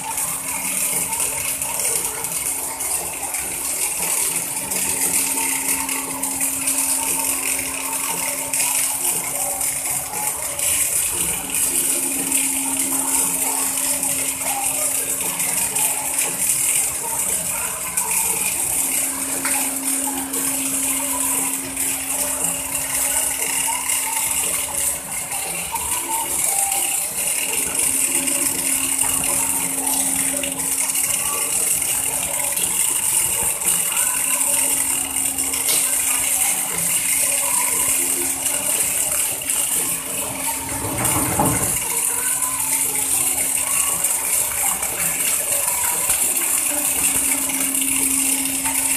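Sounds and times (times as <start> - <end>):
machinery hum: 0.0 - 48.9.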